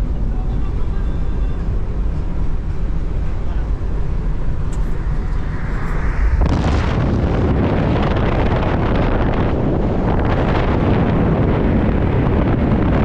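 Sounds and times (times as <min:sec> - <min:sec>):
loud rush of noise: 0:00.0 - 0:13.0
wind buffeting microphone: 0:00.0 - 0:13.0.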